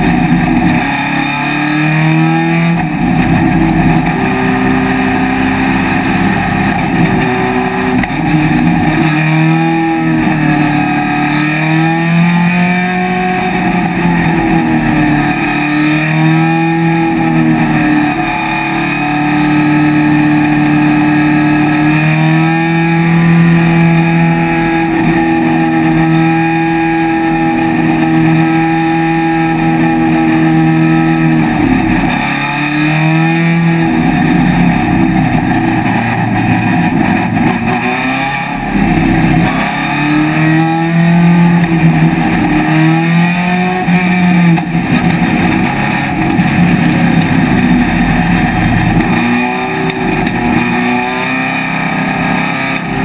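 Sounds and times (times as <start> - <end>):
race car engine: 0.0 - 53.0.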